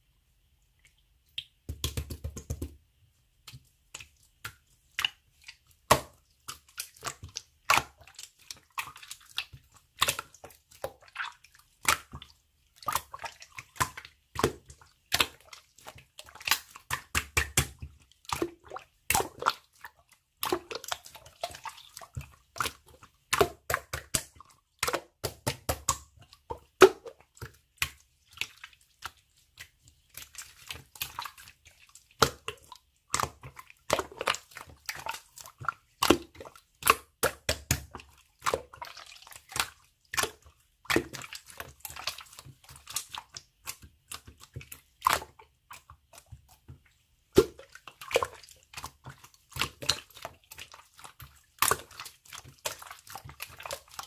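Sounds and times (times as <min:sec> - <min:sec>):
slime squishing with clicks and pops: 0:01.2 - 0:02.8, 0:03.4 - 0:54.0.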